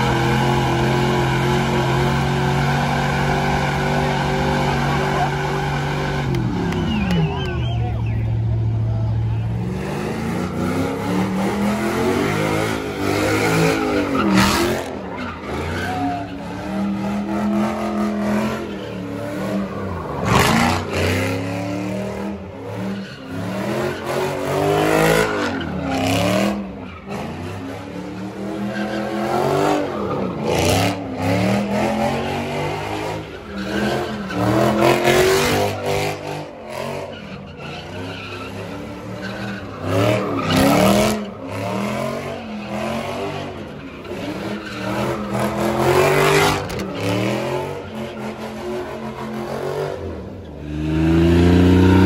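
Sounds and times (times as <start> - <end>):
car engine revving: 0.0 - 52.0
tyres skidding and squealing: 0.0 - 52.0.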